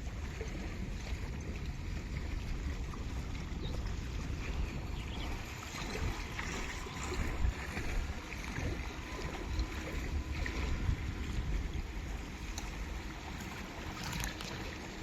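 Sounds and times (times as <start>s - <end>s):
water sloshing and splashing: 0.0s - 15.0s
wind rumble on microphone: 0.0s - 15.0s.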